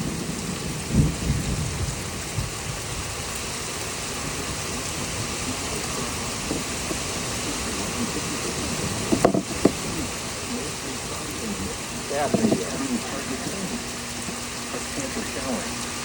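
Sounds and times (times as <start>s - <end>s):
steady rain falling: 0.0s - 16.0s
thunder rumble: 0.0s - 16.0s.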